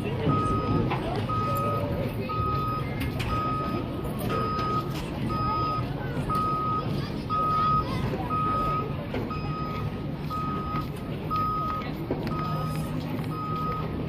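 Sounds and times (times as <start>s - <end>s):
reversing alarm beeping: 0.2s - 14.0s.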